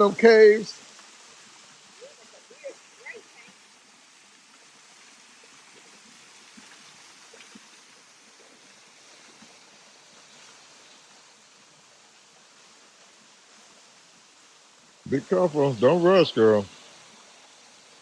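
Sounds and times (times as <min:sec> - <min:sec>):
waterfall rushing water: 0:00.0 - 0:18.0.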